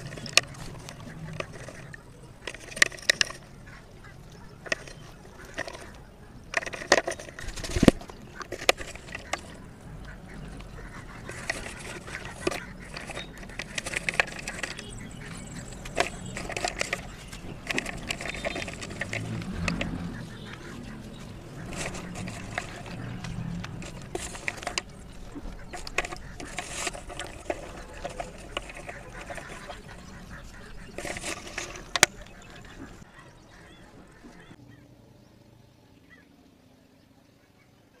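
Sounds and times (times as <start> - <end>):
slate pencils clattering in basin: 0.0 - 3.8, 4.5 - 33.1.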